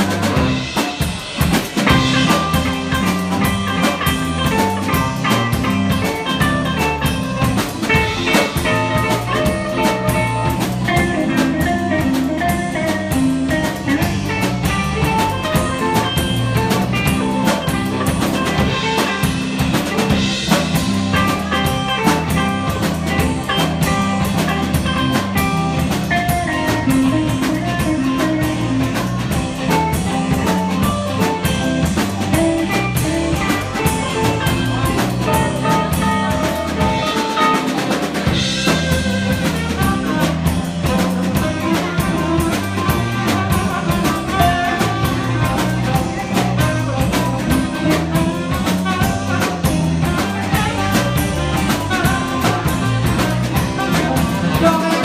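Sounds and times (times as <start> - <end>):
drum kit beat: 0.0 - 55.0
electric bass: 0.0 - 55.0
electric guitars: 0.0 - 55.0
saxophone: 0.0 - 55.0.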